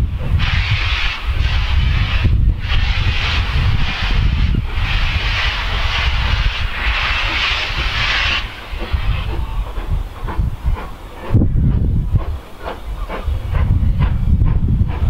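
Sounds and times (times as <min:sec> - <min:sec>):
distant steam locomotive hissing: 0:00.0 - 0:15.0
low rumble: 0:00.0 - 0:15.0.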